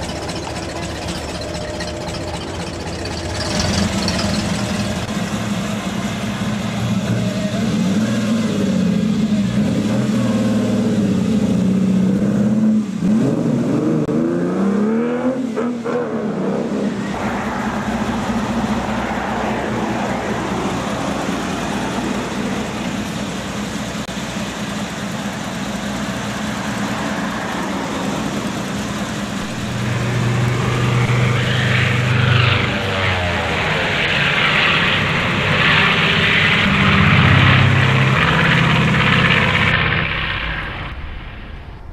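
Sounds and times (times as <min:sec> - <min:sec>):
traffic engines running: 0:00.0 - 0:41.6
deep loud engine: 0:00.0 - 0:41.9
traffic rushing noise: 0:00.0 - 0:41.9.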